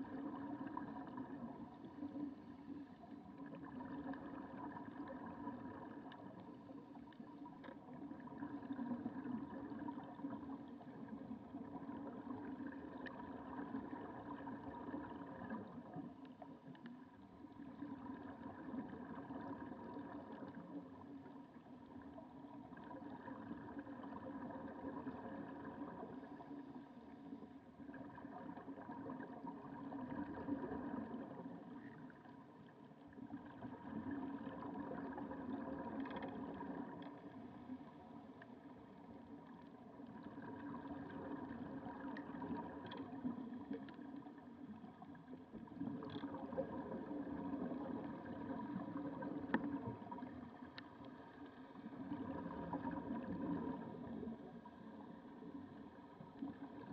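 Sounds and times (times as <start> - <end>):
motor hum underwater: 0.0 - 56.9.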